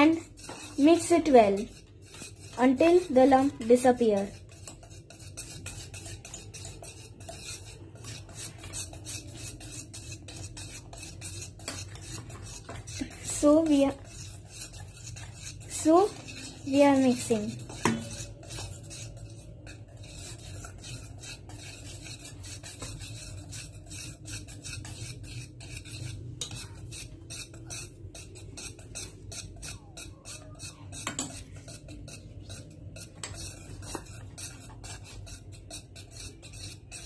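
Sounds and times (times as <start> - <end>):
whisk beating batter in metal bowl: 0.0 - 37.0
whisk knocking against bowl: 0.0 - 37.0.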